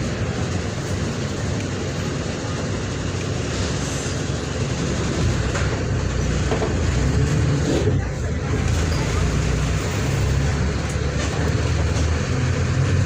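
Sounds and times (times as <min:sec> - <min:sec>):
bus diesel engine rumbling: 0:00.0 - 0:13.0
bus ride noise: 0:00.0 - 0:13.0.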